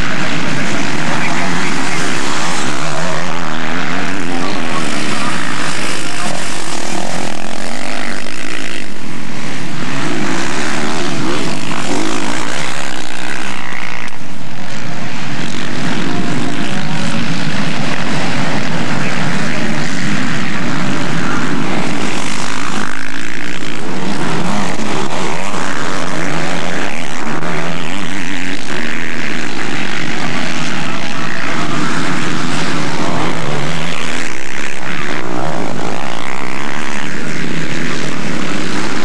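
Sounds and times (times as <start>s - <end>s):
motocross bikes revving past: 0.0s - 39.0s.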